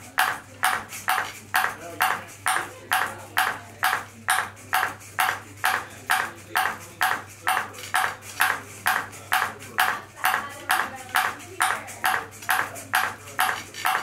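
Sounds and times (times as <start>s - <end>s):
ping pong ball tapping on paddle: 0.1s - 14.0s.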